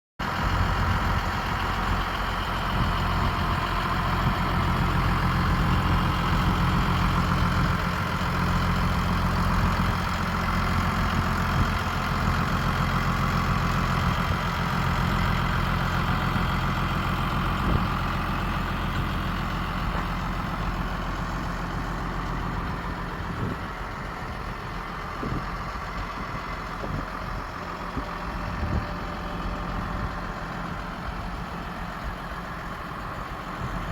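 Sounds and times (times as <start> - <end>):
tractor diesel engine idling: 0.2 - 33.9.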